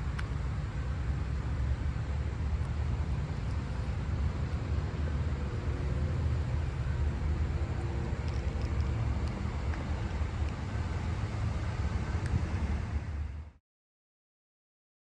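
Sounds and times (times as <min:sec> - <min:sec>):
car road and wind noise: 0:00.0 - 0:13.6.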